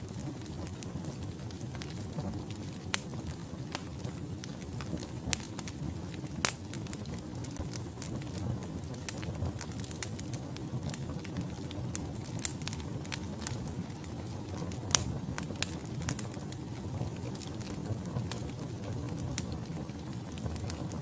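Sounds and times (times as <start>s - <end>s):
fire crackling and popping: 0.0s - 21.0s
low roar of flames: 0.0s - 21.0s.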